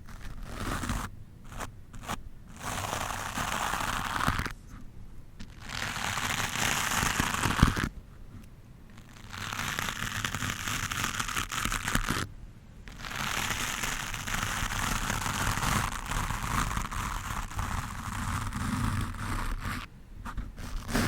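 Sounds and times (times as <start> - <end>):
brush scrubbing a microphone: 0.0 - 4.8, 5.4 - 7.9, 8.9 - 12.3, 12.9 - 21.0.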